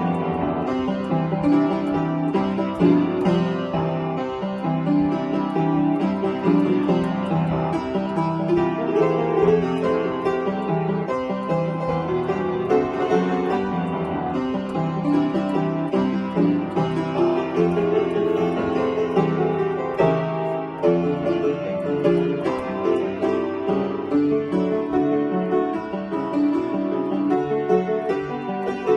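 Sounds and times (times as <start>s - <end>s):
piano playing: 0.0s - 28.9s.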